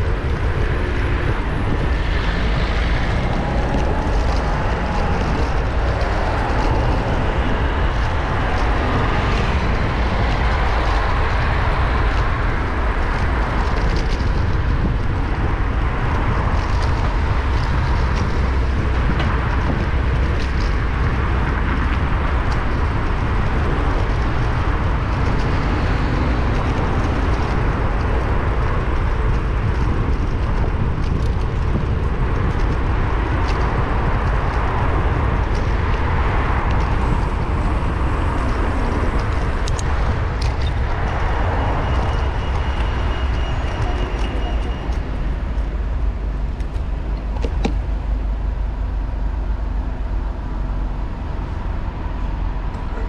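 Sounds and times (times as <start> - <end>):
passing vehicles: 0.0 - 53.0
road traffic rumble: 0.0 - 53.0.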